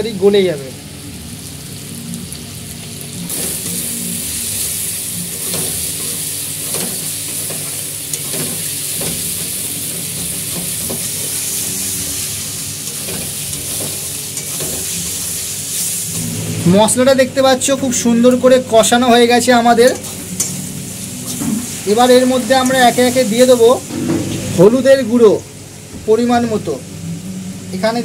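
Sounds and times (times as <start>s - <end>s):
masala sizzling in oil: 0.2s - 25.9s.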